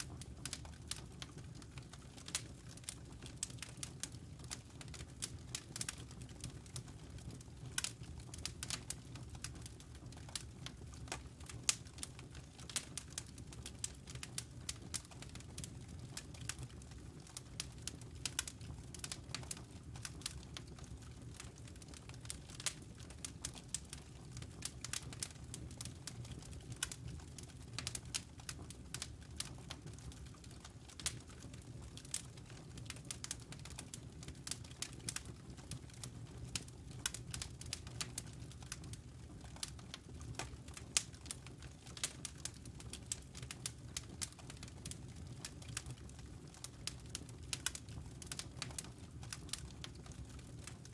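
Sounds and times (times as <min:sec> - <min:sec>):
campfire crackling and popping: 0:00.0 - 0:50.9
low fire rumble: 0:00.0 - 0:50.9.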